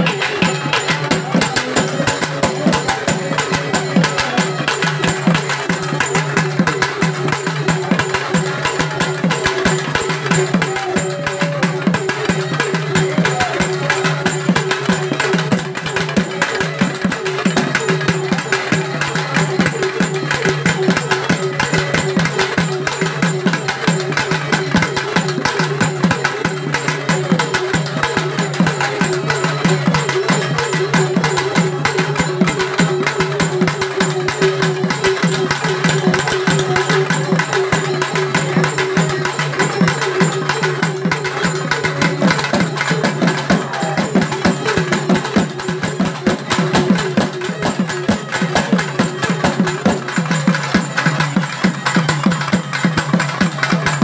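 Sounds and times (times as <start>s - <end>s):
rapid barrel drumming: 0.0s - 54.0s.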